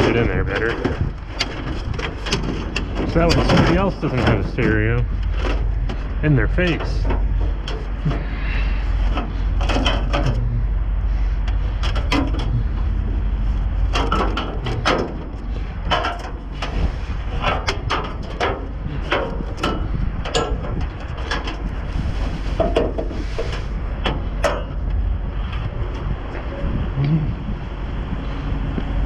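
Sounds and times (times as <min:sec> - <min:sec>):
junk clattering in a dumpster: 0:00.0 - 0:10.8, 0:11.6 - 0:26.5
steady low rumble: 0:00.0 - 0:29.0.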